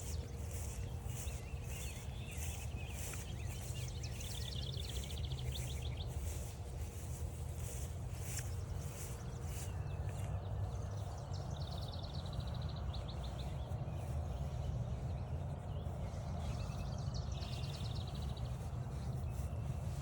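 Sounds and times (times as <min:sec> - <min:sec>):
songbirds chirping: 0:00.0 - 0:20.0
steady low rumble: 0:00.0 - 0:20.0.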